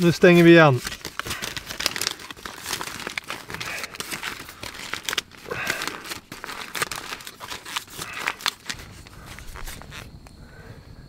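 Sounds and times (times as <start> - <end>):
aluminium foil crinkling: 0.0 - 10.1.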